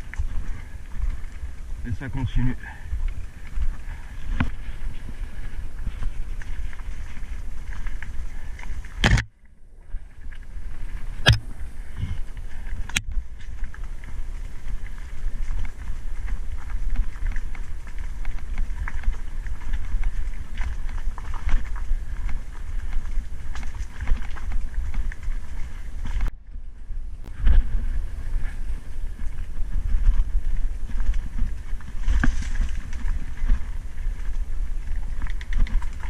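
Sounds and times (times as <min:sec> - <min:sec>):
wind buffeting: 0:00.0 - 0:36.0.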